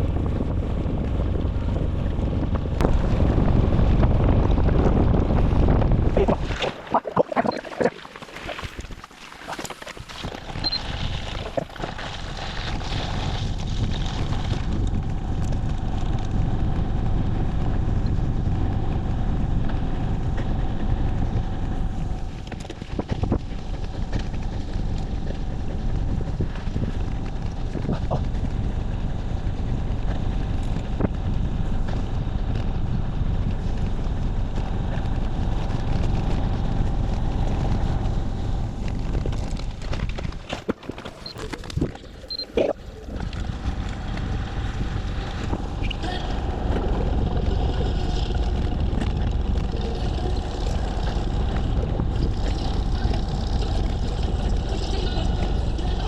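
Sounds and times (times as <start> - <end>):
wind buffeting microphone: 0.0 - 9.0, 10.0 - 40.5, 41.3 - 56.0.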